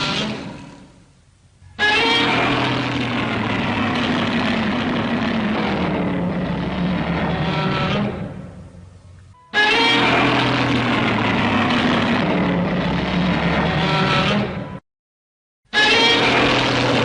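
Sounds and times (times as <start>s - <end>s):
dense mechanical noise with whine: 0.0s - 14.8s.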